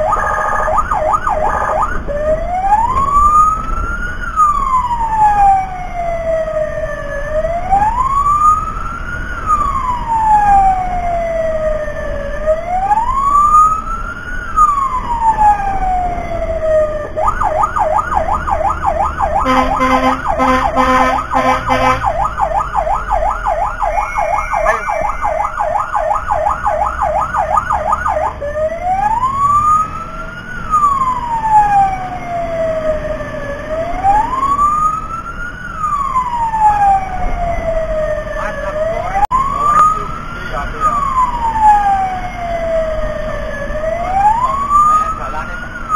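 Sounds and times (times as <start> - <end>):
electronic siren wailing and yelping: 0.0 - 45.9.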